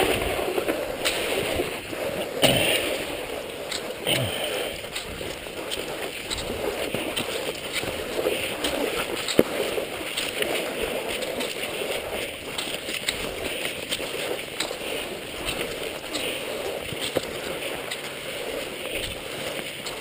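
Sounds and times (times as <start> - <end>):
ski poles planting in snow: 0.0 - 20.0
skis swishing on snow: 0.0 - 20.0.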